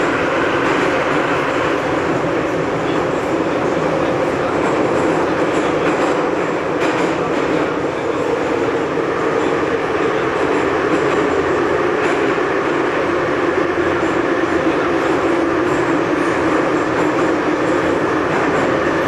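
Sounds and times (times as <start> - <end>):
train wheels roaring on rail: 0.0 - 19.0.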